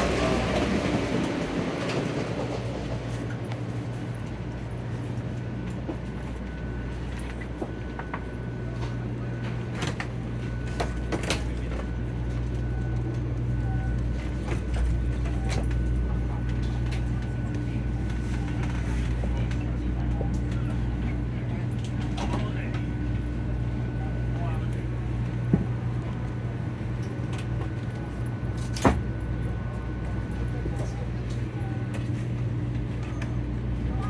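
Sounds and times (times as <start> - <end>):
train car low hum: 0.0 - 34.0.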